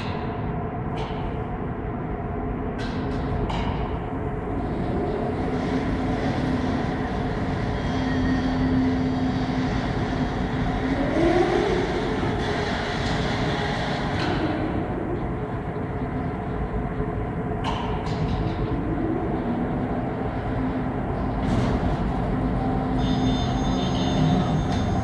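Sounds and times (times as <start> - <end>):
electric carts humming: 4.5 - 25.0.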